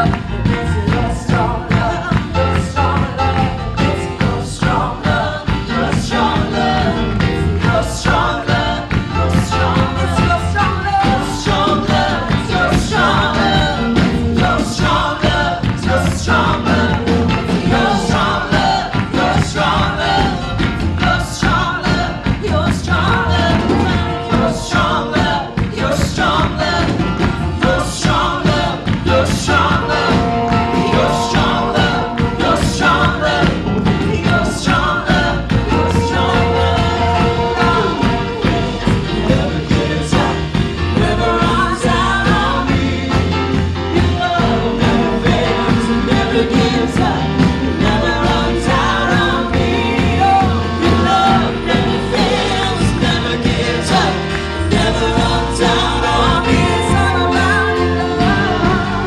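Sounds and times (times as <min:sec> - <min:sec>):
people singing: 0:00.0 - 0:59.0
upbeat band with drums and bass: 0:00.0 - 0:59.0.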